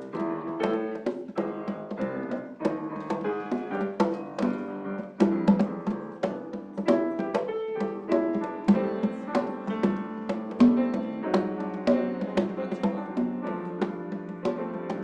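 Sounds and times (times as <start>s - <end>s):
instrumental music with drums: 0.0s - 15.0s.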